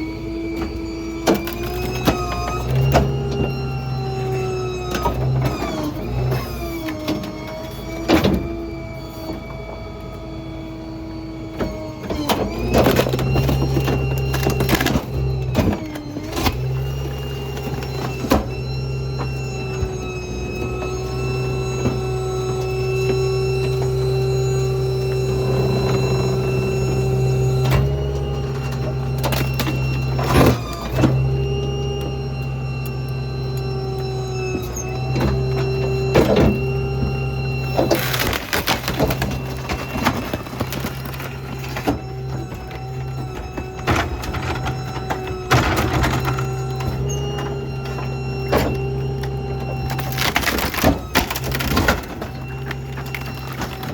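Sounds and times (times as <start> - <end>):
garbage truck engine hum: 0.0 - 53.9
hydraulic whine: 0.0 - 53.9.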